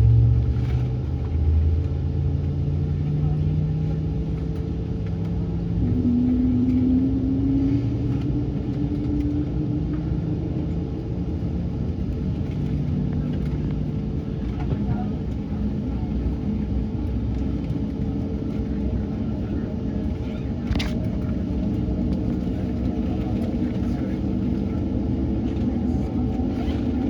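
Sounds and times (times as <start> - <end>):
aircraft cabin rumble and hum: 0.0 - 27.0.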